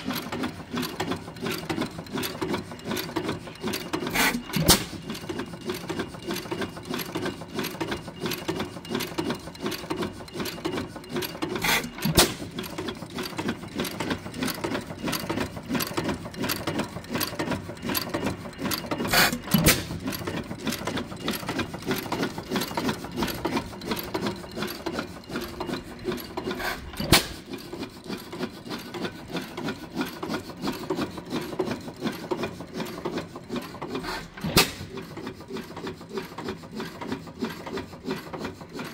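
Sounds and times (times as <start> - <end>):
engine clattering: 0.0 - 38.9.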